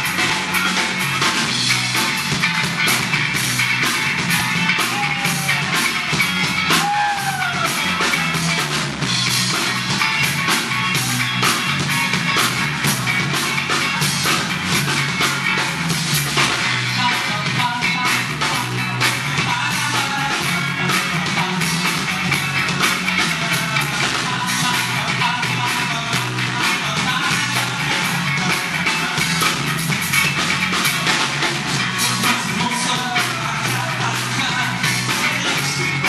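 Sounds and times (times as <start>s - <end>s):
bass line: 0.0s - 36.0s
drum kit with cymbals: 0.0s - 36.0s
electric guitar: 0.0s - 36.0s.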